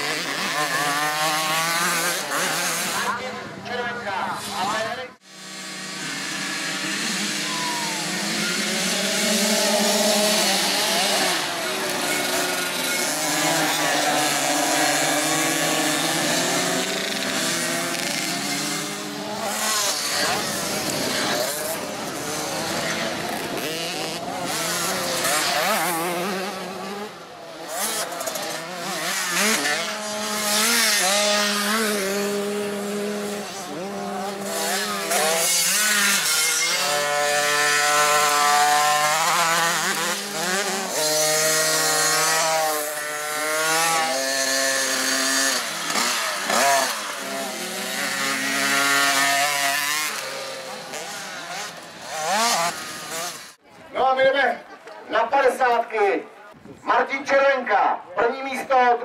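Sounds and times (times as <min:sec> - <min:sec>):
two-stroke dirt bikes revving: 0:00.0 - 0:53.6.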